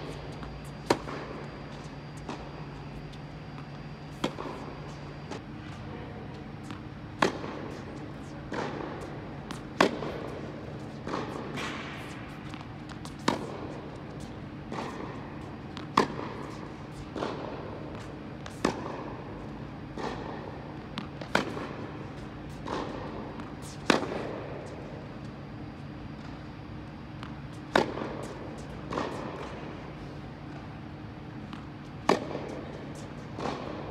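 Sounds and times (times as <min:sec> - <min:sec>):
tennis ball struck by racket: 0:00.0 - 0:05.8, 0:06.4 - 0:25.4, 0:26.2 - 0:33.9
steady low hum: 0:00.0 - 0:33.9
tennis ball bouncing: 0:00.0 - 0:33.9.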